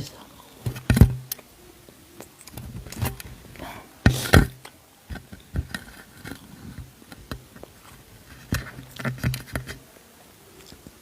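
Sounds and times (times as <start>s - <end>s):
small clicks and crunches: 0.6s - 11.0s.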